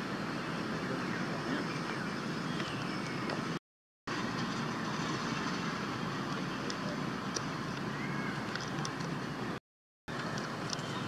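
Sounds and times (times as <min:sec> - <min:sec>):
outdoor background rumbling hiss: 0:00.0 - 0:11.0.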